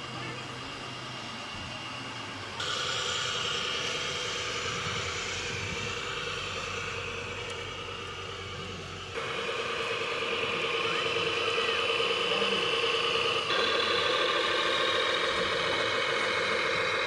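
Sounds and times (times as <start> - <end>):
toy truck motor whining: 0.0 - 17.0.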